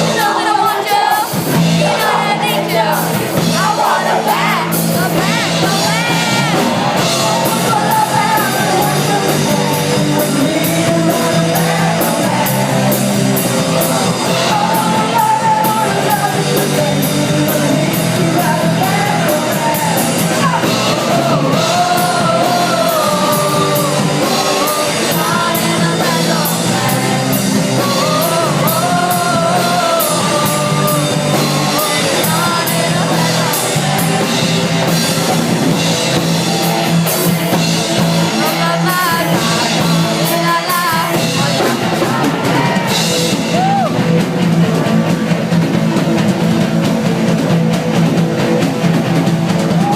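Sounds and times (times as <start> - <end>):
rock song with vocals: 0.0 - 49.9.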